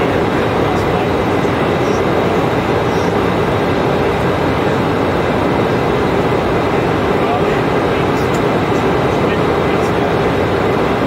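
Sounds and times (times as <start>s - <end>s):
airliner cabin airflow hiss: 0.0s - 11.0s
jet engines droning: 0.0s - 11.0s.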